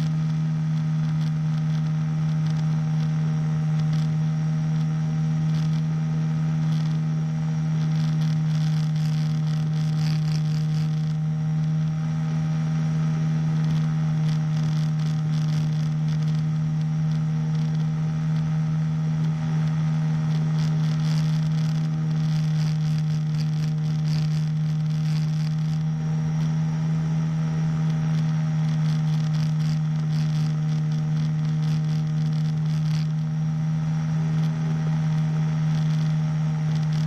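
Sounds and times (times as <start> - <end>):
small engine droning: 0.0 - 37.0.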